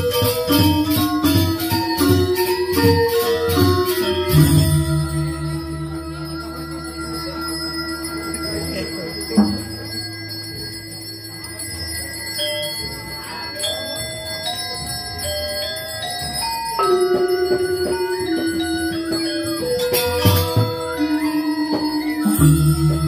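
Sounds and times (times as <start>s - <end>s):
bell-like metallic music: 0.0s - 23.0s.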